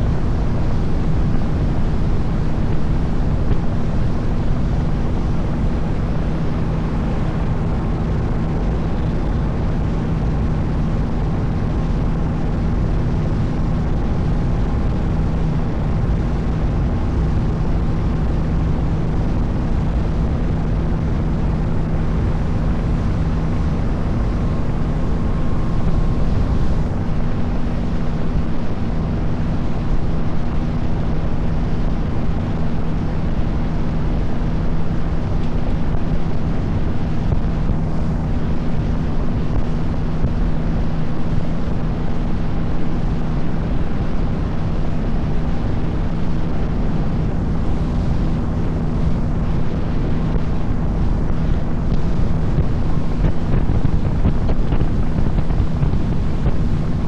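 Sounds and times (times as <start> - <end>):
boat engine running: 0.0 - 57.0
wind on microphone: 0.0 - 57.0.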